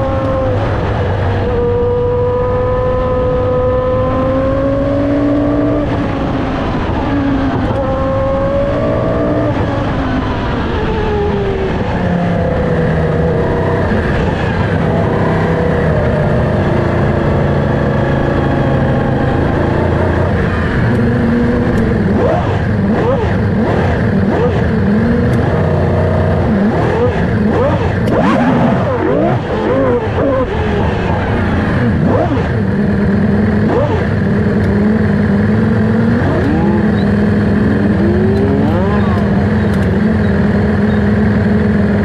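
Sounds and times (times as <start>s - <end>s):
racing car engine at high revs: 0.0s - 42.0s.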